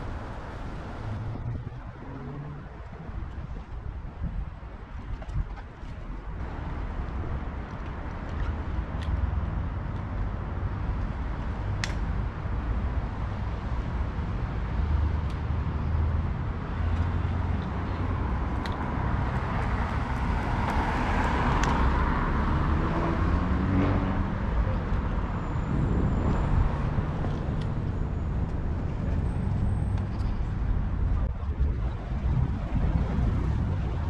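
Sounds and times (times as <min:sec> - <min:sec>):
street traffic noise: 0:00.0 - 0:34.0
wind rumble on microphone: 0:00.0 - 0:34.0.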